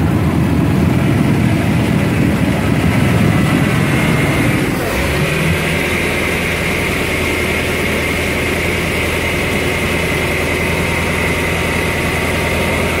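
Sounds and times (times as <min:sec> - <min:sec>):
boat engine idling fast: 0:00.0 - 0:13.0.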